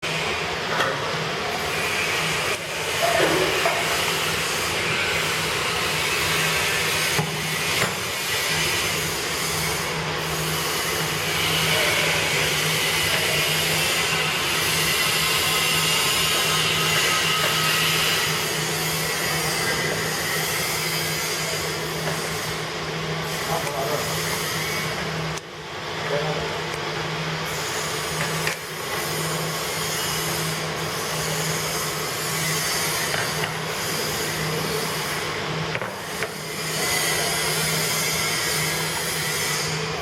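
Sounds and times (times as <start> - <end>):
grinding machine whirring: 0.0 - 40.0.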